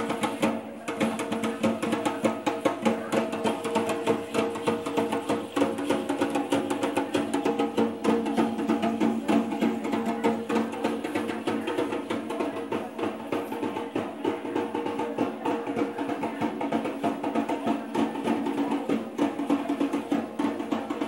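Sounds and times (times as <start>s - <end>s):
fast drumming and rattling: 0.0s - 21.0s.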